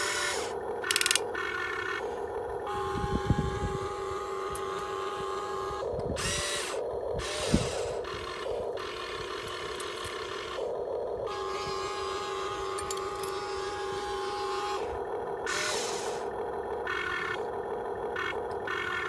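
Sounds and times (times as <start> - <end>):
electric motors whining: 0.0 - 19.0.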